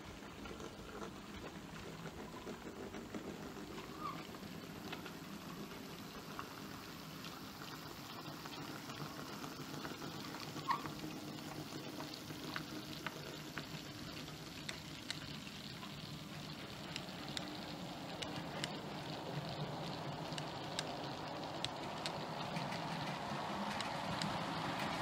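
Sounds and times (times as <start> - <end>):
model train motor hum: 0.0 - 25.0
wheels clicking over rail joints: 0.0 - 25.0.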